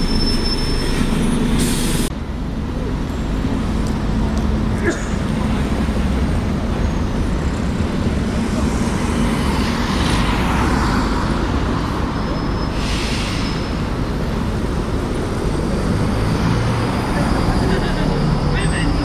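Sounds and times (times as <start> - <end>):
vehicles passing: 1.0 - 19.0.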